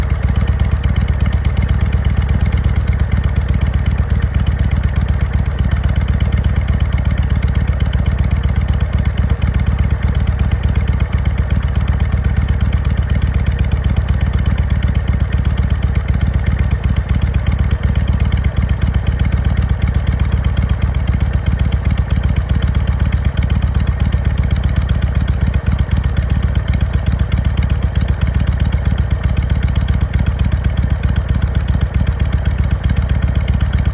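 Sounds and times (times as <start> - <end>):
motorcycle exhaust idling: 0.0 - 33.9.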